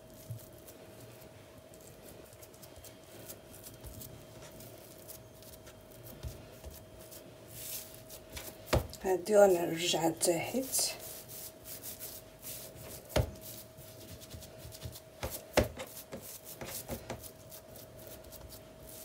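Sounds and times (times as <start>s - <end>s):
hands rubbing and tapping dough: 0.0s - 9.0s, 10.7s - 19.0s
faint steady hum: 0.0s - 19.0s.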